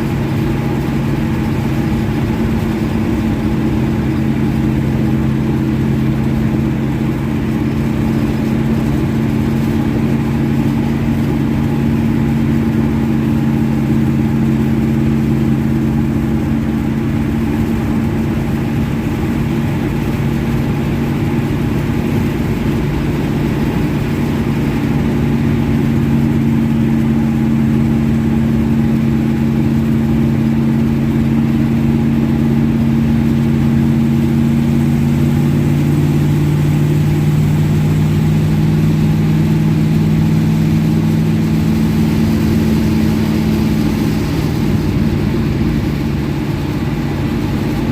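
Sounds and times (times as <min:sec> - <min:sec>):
car engine running steadily: 0:00.0 - 0:47.9.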